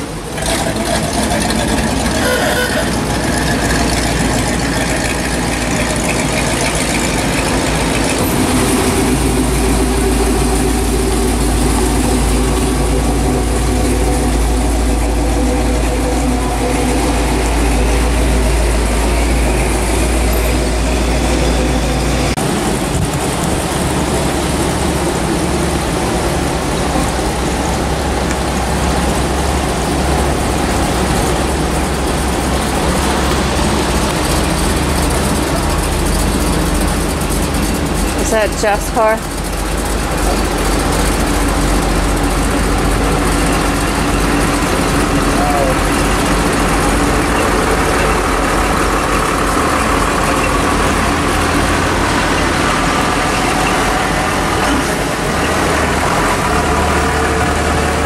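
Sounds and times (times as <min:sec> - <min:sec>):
car engines running at low speed: 0:00.0 - 0:58.0.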